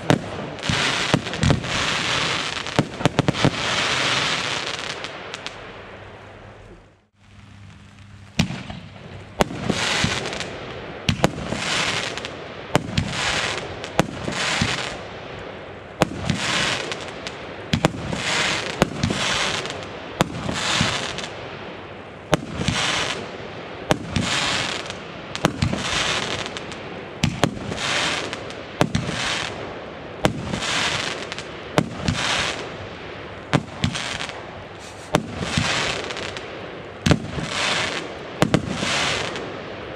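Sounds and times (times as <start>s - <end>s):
fireworks firing: 0.0s - 39.9s.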